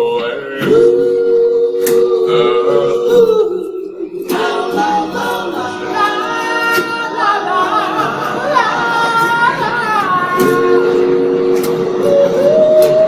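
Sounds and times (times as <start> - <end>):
a cappella group singing: 0.0 - 13.0.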